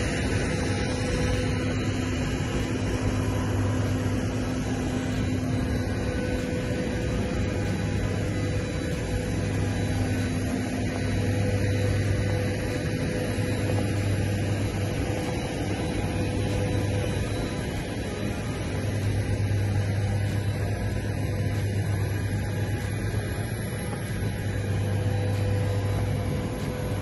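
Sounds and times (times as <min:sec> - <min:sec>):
higher mechanical tone: 0:00.0 - 0:27.0
machinery low drone: 0:00.0 - 0:27.0.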